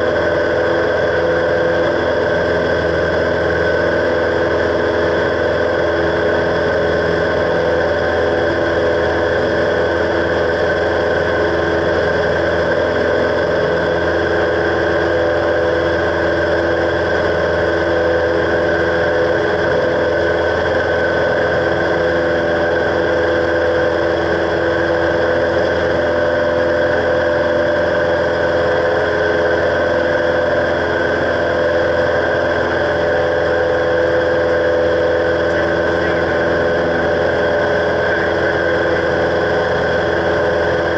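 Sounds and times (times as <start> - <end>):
airplane engine and propeller: 0.0 - 40.9.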